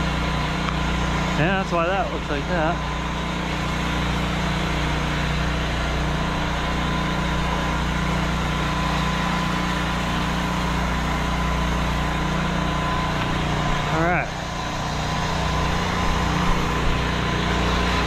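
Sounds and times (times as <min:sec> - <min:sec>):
pressure washer engine running: 0:00.0 - 0:18.0.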